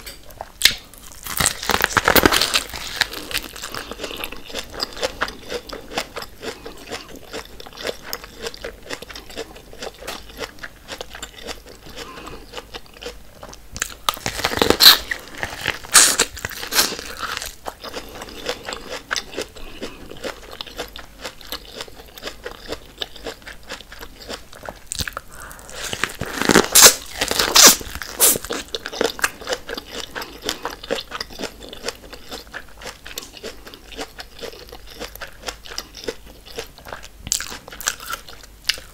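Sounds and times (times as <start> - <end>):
person chewing corn on the cob: 0.0 - 38.9
crunching bites: 0.6 - 38.9.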